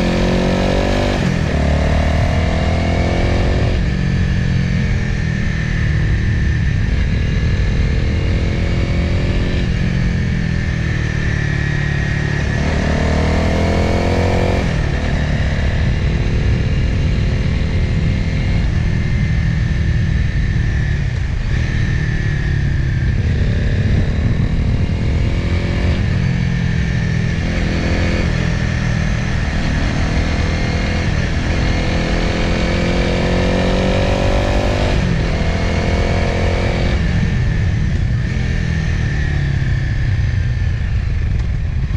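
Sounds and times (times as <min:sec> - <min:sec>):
motorcycle engine: 0:00.0 - 0:41.9
wind rush: 0:00.0 - 0:41.9.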